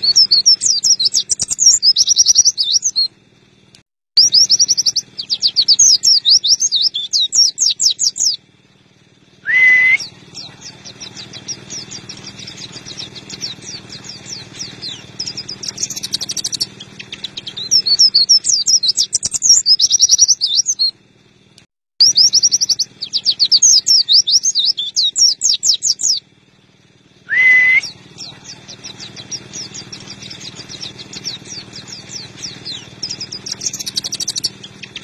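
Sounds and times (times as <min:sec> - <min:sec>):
bird twittering song: 0:00.0 - 0:35.0.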